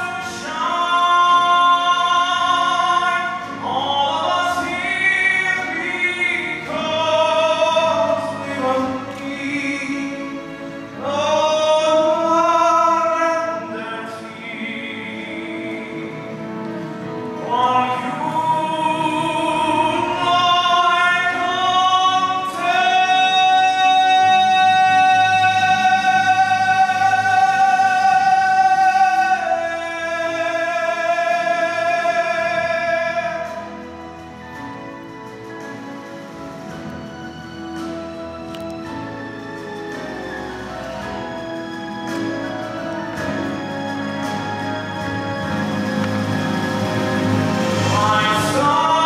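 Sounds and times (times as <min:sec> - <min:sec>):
man singing operatically: 0:00.0 - 0:34.4, 0:40.6 - 0:49.0.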